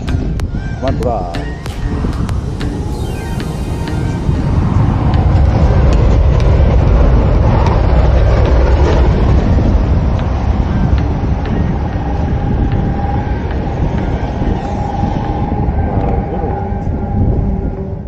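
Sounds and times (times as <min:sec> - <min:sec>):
rc car rumbling: 0:01.6 - 0:18.0.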